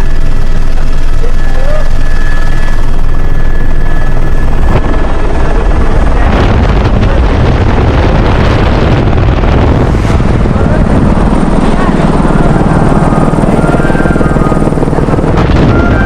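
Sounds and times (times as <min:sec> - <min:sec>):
helicopter engine and rotor noise: 0:00.0 - 0:16.0
rushing noise: 0:00.0 - 0:16.0.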